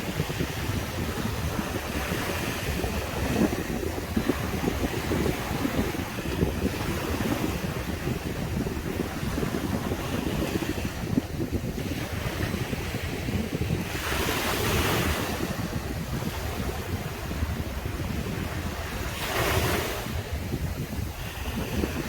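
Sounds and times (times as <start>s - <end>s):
waves breaking on beach: 0.0s - 22.0s
wind buffeting microphone: 0.0s - 22.0s.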